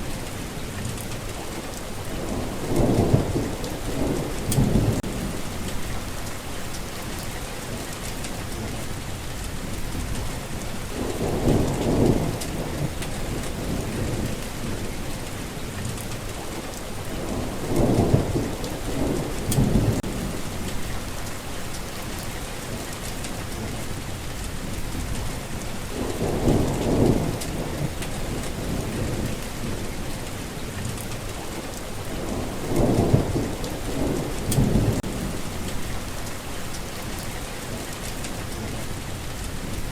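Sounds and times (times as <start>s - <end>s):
rain falling: 0.0s - 39.9s
thunder rumbling: 1.9s - 23.8s, 24.5s - 39.9s.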